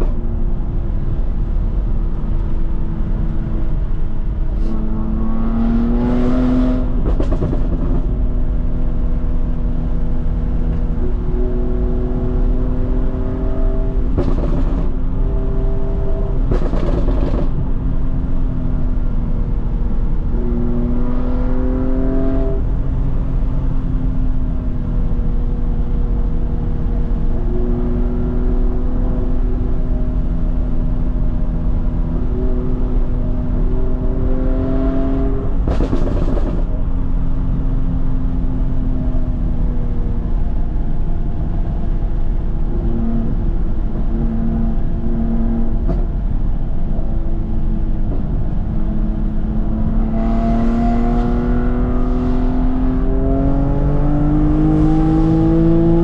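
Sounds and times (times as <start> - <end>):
car engine revving: 0.0 - 23.5, 26.7 - 37.4, 41.9 - 56.0.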